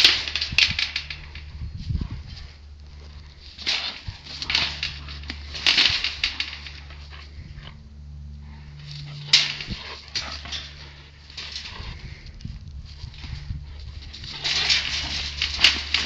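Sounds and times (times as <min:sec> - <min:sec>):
body rattling wire panels: 0:00.0 - 0:07.6, 0:08.6 - 0:16.0
steady low hum: 0:00.0 - 0:16.0.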